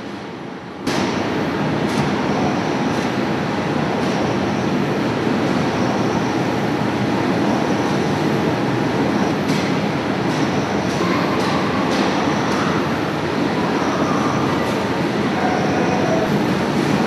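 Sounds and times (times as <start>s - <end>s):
mill machinery running: 0.0s - 17.0s.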